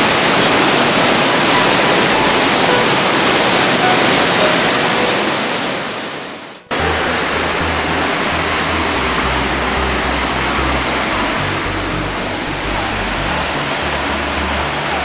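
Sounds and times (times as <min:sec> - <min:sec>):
electronic dance music: 0:00.0 - 0:05.6, 0:06.7 - 0:15.0
waterfall rushing: 0:00.0 - 0:15.0.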